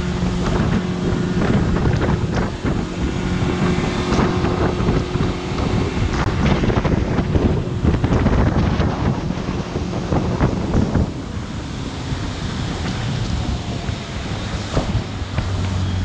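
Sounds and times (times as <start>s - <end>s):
boat engine running: 0.0s - 16.0s
water rushing: 0.0s - 16.0s
wind buffeting microphone: 0.0s - 16.0s.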